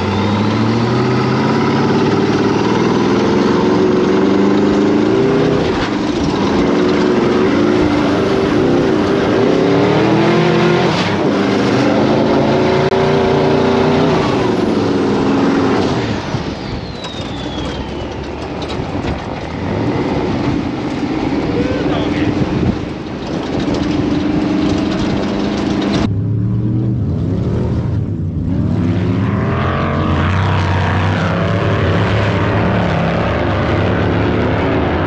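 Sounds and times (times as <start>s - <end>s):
sand car engine revving: 0.0s - 35.0s.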